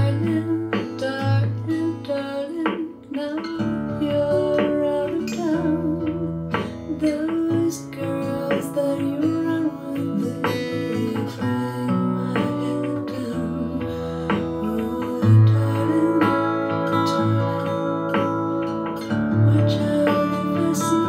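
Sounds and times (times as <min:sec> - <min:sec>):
plucked acoustic guitar: 0:00.0 - 0:21.0.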